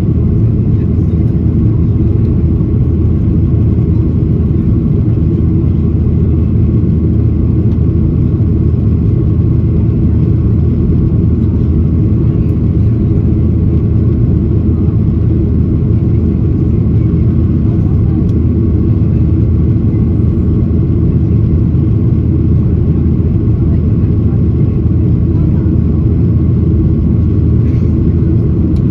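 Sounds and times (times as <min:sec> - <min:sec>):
airplane cabin drone: 0:00.0 - 0:28.9.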